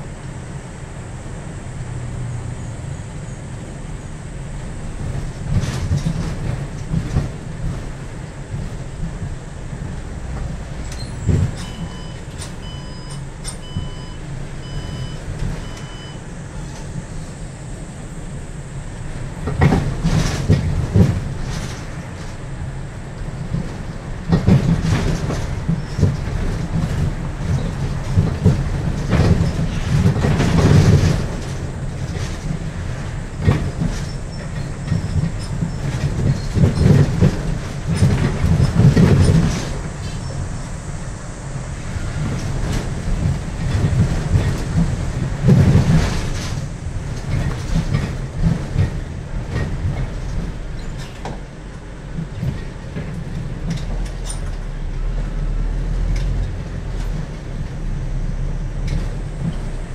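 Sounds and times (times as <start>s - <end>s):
bus engine and road rumble: 0.0s - 59.9s
bus fittings rattling: 4.8s - 59.9s.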